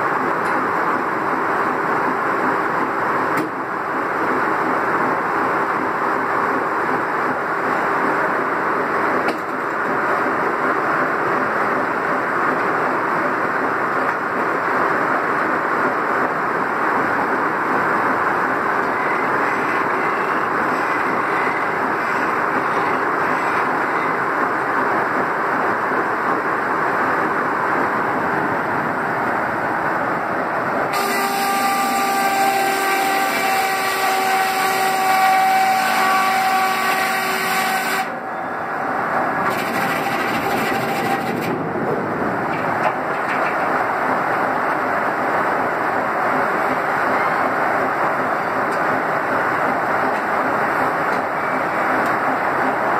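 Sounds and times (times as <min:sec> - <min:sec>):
sawmill mechanical din: 0:00.0 - 0:52.9.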